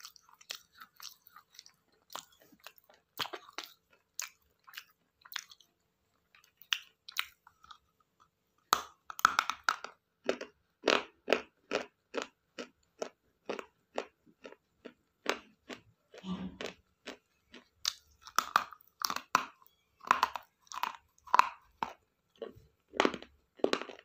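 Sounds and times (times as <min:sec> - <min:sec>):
person chewing crunchy food: 0:00.0 - 0:24.0.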